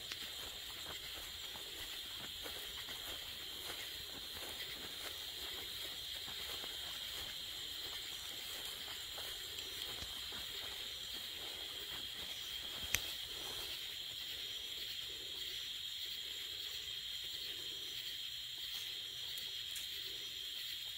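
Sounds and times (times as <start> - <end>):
night insects buzzing: 0.0 - 20.9.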